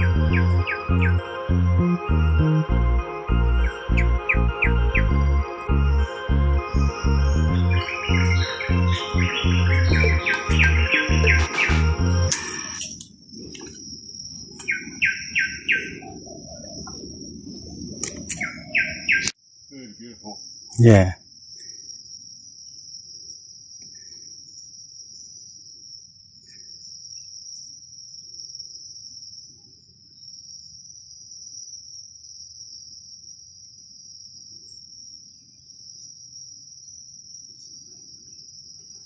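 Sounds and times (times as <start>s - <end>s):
insects buzzing drone: 0.0s - 39.0s.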